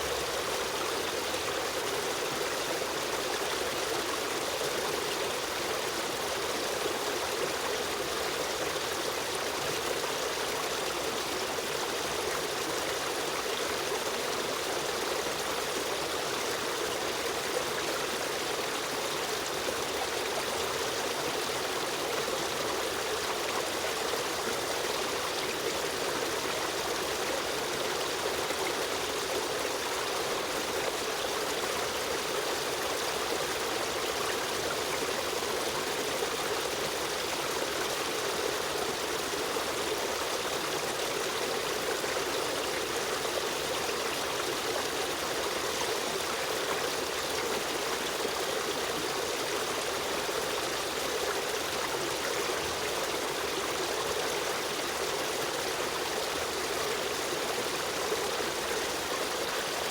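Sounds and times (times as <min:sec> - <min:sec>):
stream running over rocks: 0:00.0 - 0:59.9.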